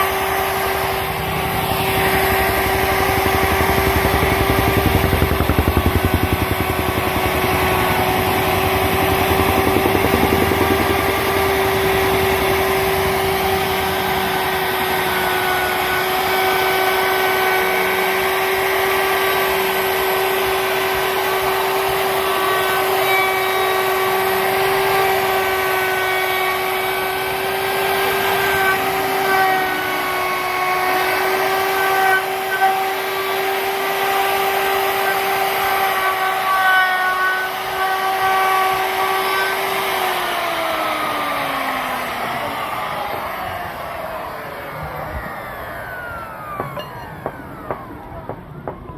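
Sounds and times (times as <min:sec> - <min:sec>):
router motor whining: 0:00.0 - 0:48.8.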